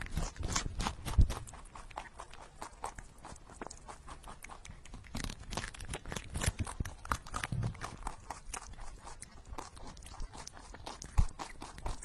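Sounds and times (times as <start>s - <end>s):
rabbit chewing cucumber: 0.0s - 12.0s.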